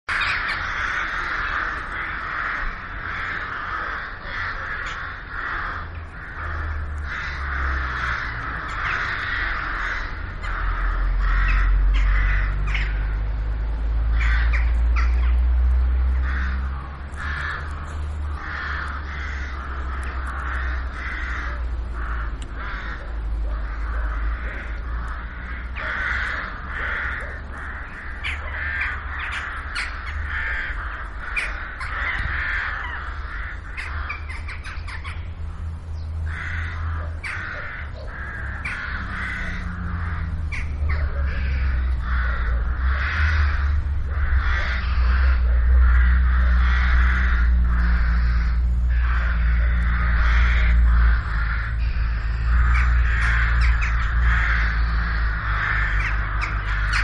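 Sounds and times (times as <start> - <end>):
crows cawing: 0.0 - 57.0.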